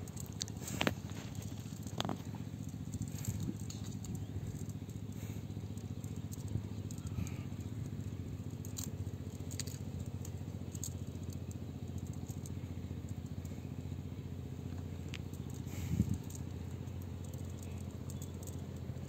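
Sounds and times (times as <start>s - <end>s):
low mechanical hum: 0.0s - 19.0s
net sinkers clicking and rattling: 0.0s - 19.0s.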